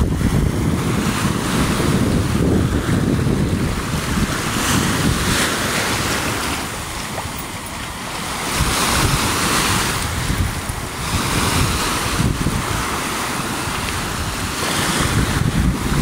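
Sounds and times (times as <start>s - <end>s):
small waves washing onto shore: 0.0s - 16.0s
wind buffeting microphone: 0.0s - 16.0s.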